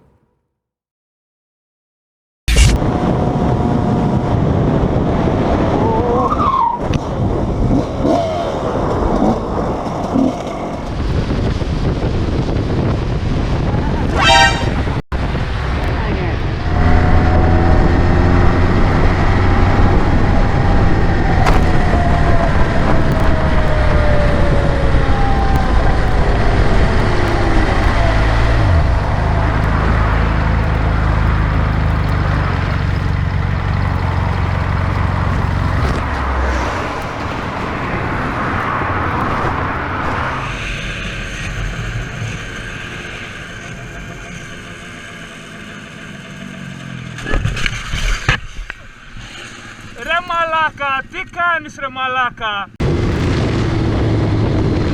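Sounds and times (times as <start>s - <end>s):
vehicle engine rumble: 2.5s - 50.1s, 52.7s - 54.9s
traffic noise: 2.6s - 51.8s.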